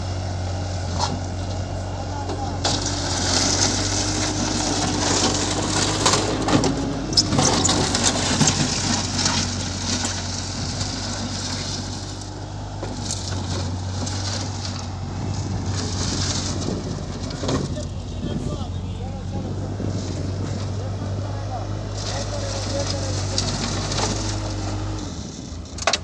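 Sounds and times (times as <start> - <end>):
machine engine running: 0.0 - 25.6.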